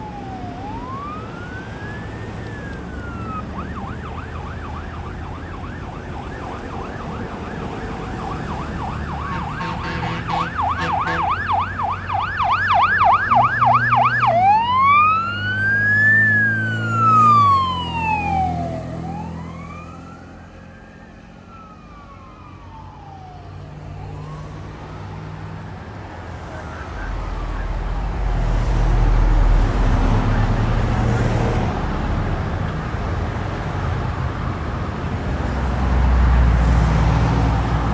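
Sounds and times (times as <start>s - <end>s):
truck engine: 0.0s - 22.2s, 22.8s - 37.9s
fire engine siren wail and yelp: 0.0s - 37.9s.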